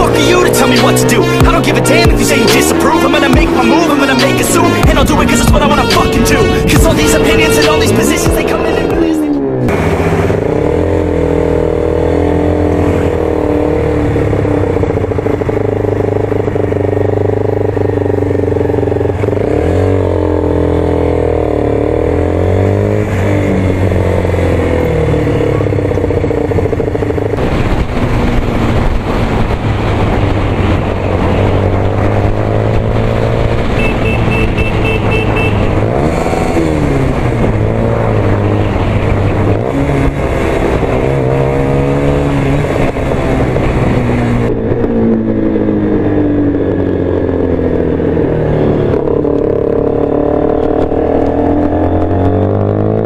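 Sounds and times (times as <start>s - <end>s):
motorcycle engine revving: 0.0s - 53.0s
road and wind noise: 0.0s - 53.0s.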